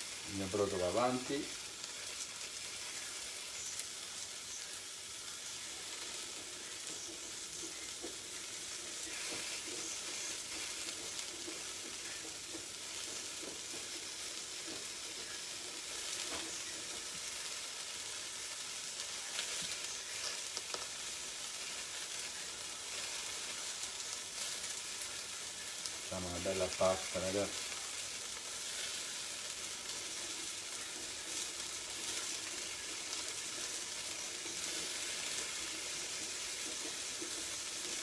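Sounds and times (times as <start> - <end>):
vegetables sizzling in a pan: 0.0 - 38.0.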